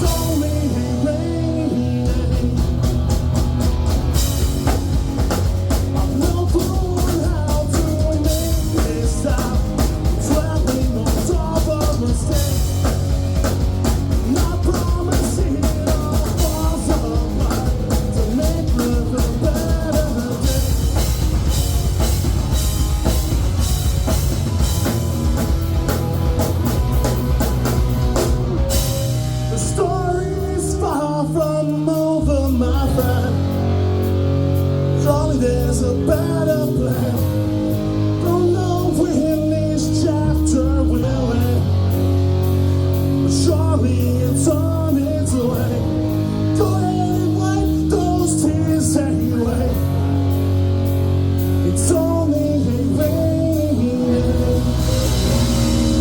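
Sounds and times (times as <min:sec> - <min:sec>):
drum kit beat: 0:00.0 - 0:56.0
guitar: 0:00.0 - 0:56.0
rock band playing: 0:00.0 - 0:56.0.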